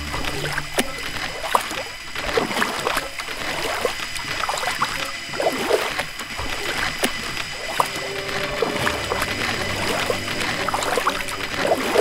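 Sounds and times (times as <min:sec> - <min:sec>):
water trickling and bubbling: 0:00.0 - 0:12.0.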